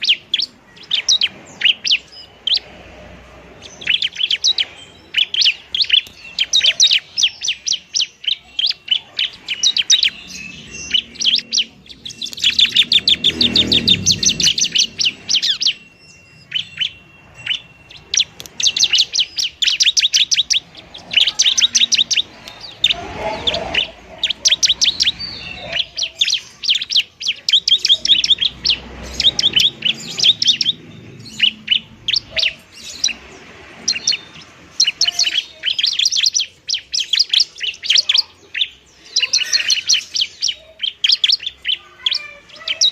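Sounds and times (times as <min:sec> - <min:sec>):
bird rapid high chirps: 0:00.0 - 0:42.9.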